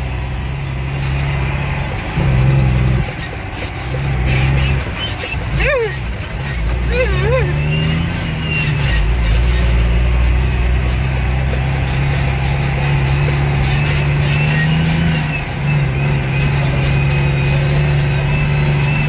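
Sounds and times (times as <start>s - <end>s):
truck engine running under load: 0.0s - 19.0s.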